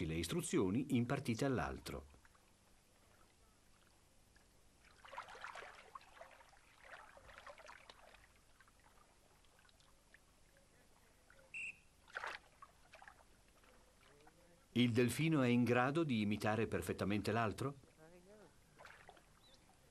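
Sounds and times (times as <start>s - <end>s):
water splashing: 0.0s - 15.0s, 17.7s - 19.9s.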